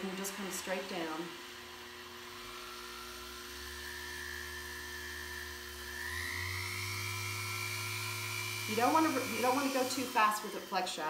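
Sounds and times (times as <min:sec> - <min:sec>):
rotary tool motor whine: 0:00.0 - 0:11.0.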